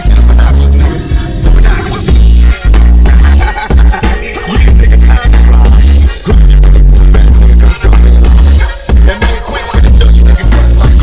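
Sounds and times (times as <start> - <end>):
hip-hop beat with deep bass: 0.0 - 11.0.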